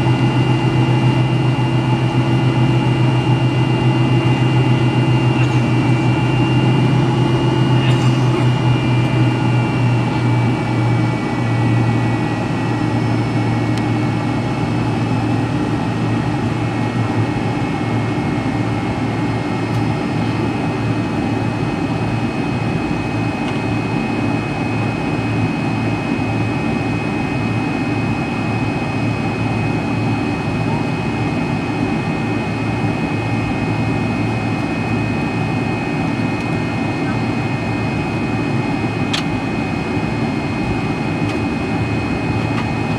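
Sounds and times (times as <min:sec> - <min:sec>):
jet engines high whine: 0:00.0 - 0:42.9.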